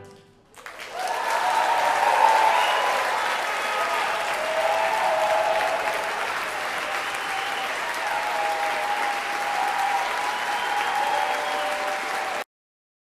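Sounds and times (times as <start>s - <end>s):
audience clapping: 0.0s - 12.5s
crowd whooping: 0.6s - 12.4s.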